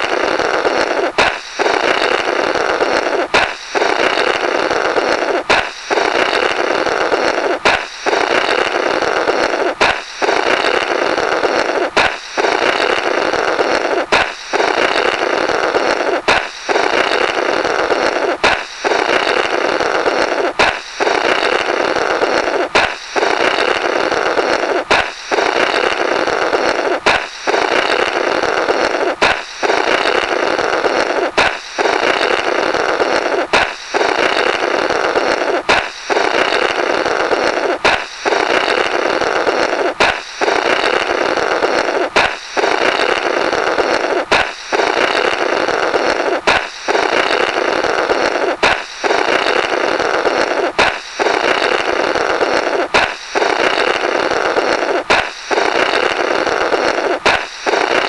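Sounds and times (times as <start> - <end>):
balloon pop: 0.0 - 2.2, 2.9 - 4.6, 5.2 - 8.7, 9.3 - 30.4, 31.1 - 34.6, 35.2 - 56.2, 56.8 - 58.0
raspy flapping blowing noise: 0.0 - 58.0.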